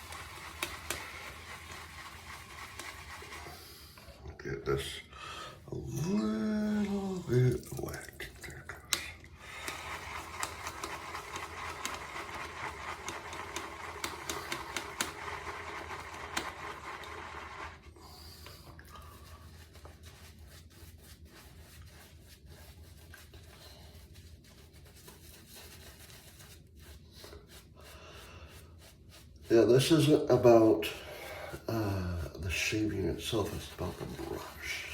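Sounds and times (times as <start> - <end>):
shaving brush working lather: 0.0 - 4.2, 5.9 - 23.2, 26.0 - 34.9.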